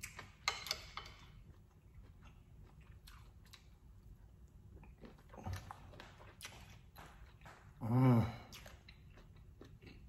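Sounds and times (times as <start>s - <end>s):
close-up chewing: 1.3s - 7.8s, 8.4s - 10.0s.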